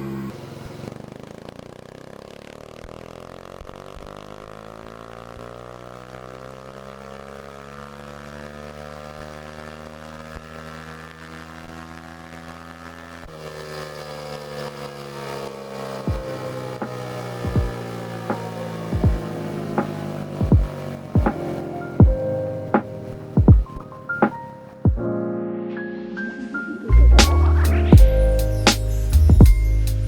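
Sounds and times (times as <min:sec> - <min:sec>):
motorcycle engine running: 0:00.0 - 0:25.1, 0:27.2 - 0:30.0.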